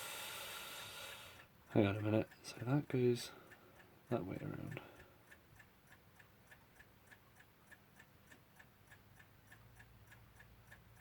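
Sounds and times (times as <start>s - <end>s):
mechanical clock ticking: 1.1s - 11.0s.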